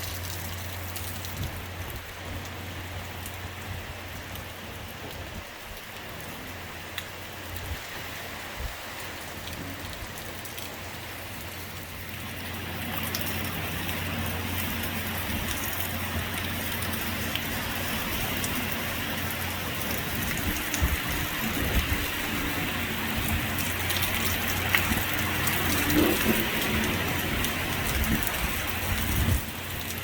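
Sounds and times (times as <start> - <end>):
sharp drips: 0.0 - 4.6, 8.9 - 30.0
heavy rain falling: 0.0 - 30.0.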